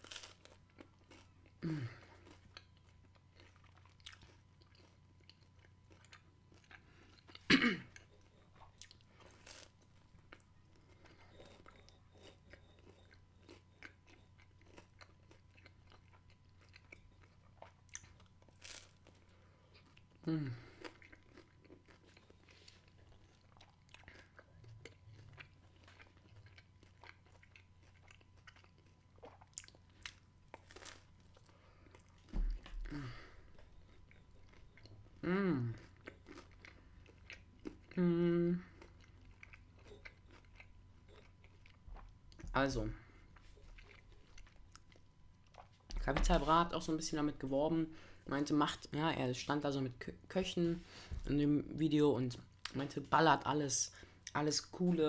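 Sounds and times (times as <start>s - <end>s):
person chewing crunchy food: 0.0s - 47.0s.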